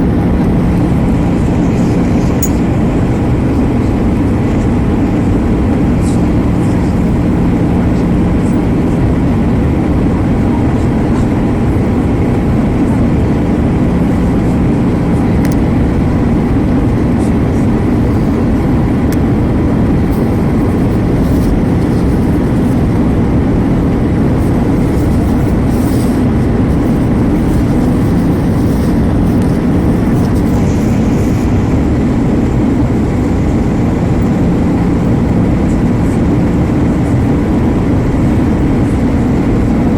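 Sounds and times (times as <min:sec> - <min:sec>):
engine and airflow rush: 0:00.0 - 0:39.9
faint steady hum: 0:00.0 - 0:39.9.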